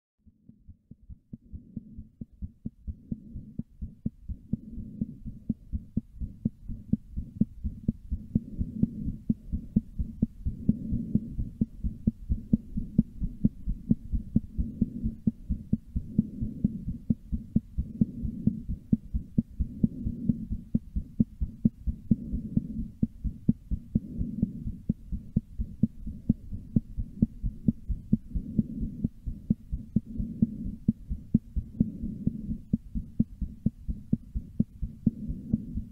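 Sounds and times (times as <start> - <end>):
fast heartbeat thumps: 0.2 - 35.9
low hum: 0.2 - 35.9.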